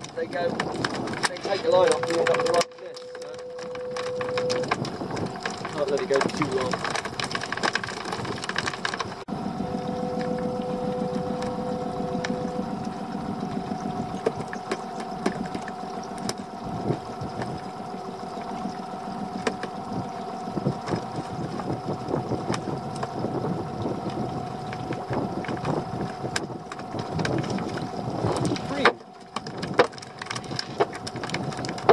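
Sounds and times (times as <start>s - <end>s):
boat engine humming: 0.0s - 31.9s
water sloshing against hull: 0.0s - 31.9s.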